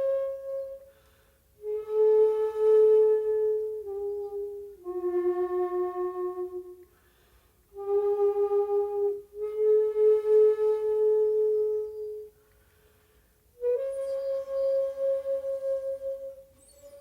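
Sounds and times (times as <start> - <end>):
bamboo flute slow held notes: 0.0 - 17.0.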